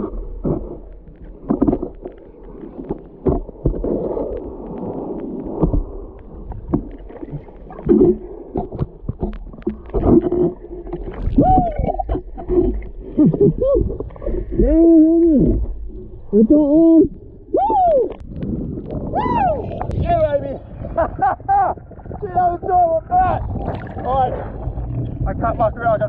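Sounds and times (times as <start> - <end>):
bubbling: 0.0 - 26.0
underwater breaking waves: 0.0 - 26.0.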